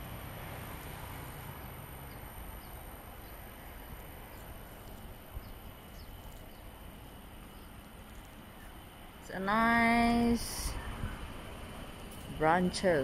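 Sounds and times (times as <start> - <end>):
high insect-like hum: 0.2 - 13.0.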